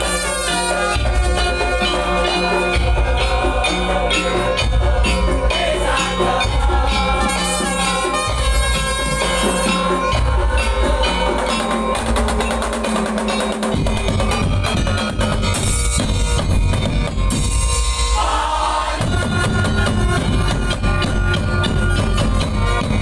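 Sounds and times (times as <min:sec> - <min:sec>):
drum-heavy percussion ensemble: 0:00.0 - 0:23.0.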